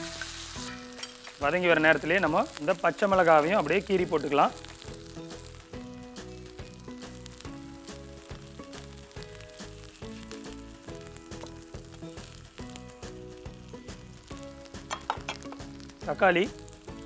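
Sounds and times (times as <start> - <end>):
background music with steady beat: 0.0 - 17.0
onions sizzling in hot oil: 0.0 - 17.0.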